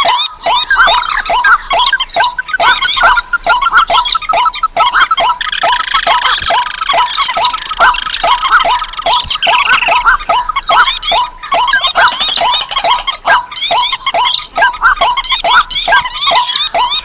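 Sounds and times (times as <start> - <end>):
yelping bird calls: 0.0 - 17.0.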